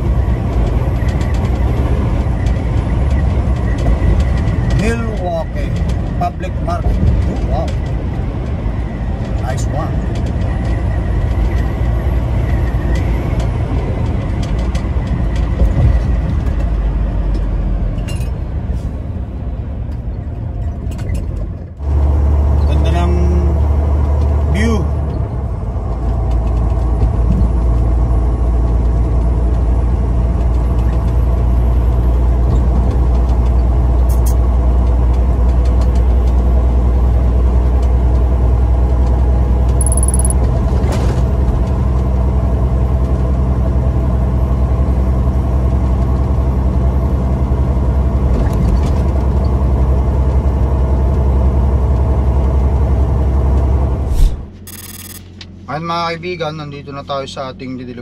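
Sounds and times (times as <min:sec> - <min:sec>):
truck engine and road drone: 0:00.0 - 0:58.0.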